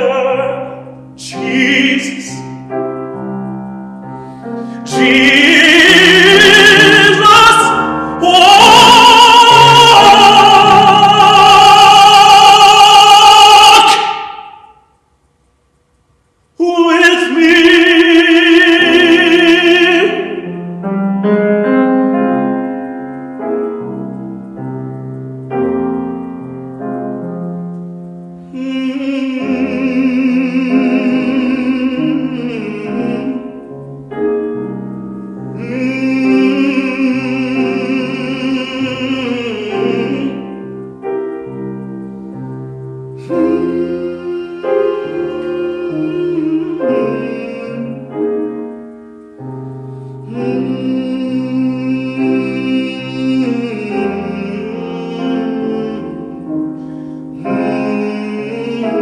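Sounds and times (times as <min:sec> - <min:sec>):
singer wordless vibrato notes: 0:00.0 - 0:03.2, 0:04.0 - 0:15.2, 0:16.5 - 0:24.6, 0:25.6 - 0:59.0
slow piano accompaniment: 0:00.0 - 0:59.0.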